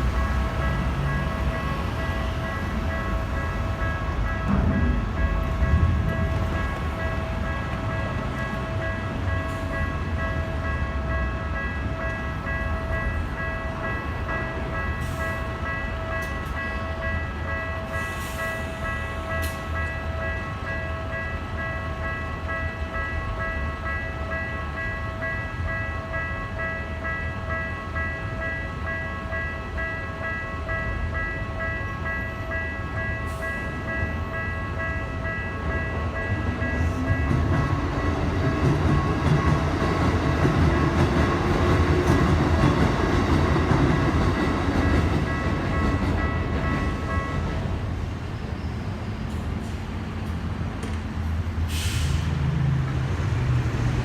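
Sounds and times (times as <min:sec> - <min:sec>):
level-crossing warning bell: 0:00.0 - 0:50.6.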